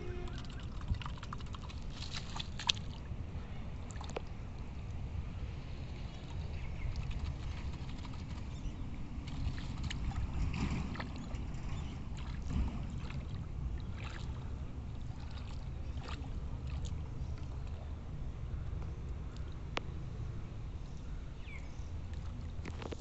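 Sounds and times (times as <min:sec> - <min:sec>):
water sloshing and splashing: 0:00.0 - 0:18.2, 0:22.0 - 0:23.0
steady low rumble: 0:00.0 - 0:23.0.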